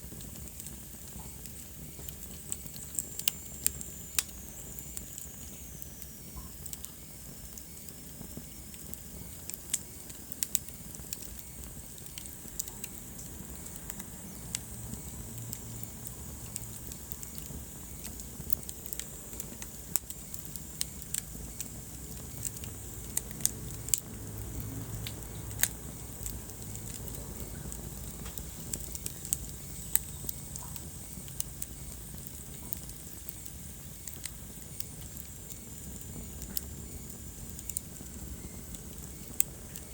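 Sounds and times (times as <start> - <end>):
logs crackling and popping: 0.0 - 39.9
low rush of flames: 0.0 - 39.9.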